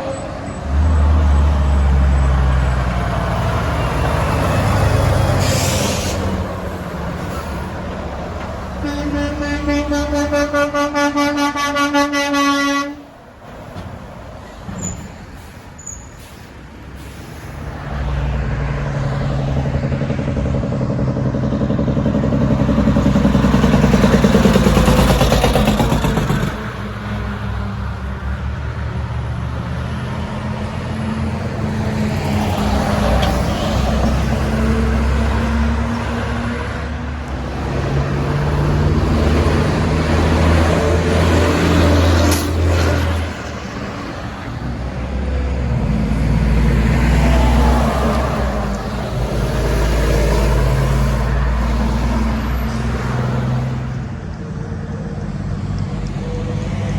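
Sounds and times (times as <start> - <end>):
diesel trucks driving past: 0.0 - 56.9.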